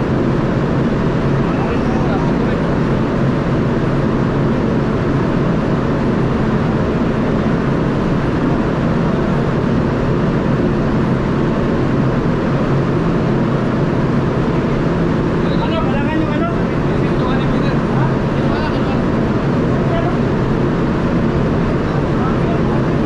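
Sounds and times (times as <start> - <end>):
ship machinery droning: 0.0 - 23.0.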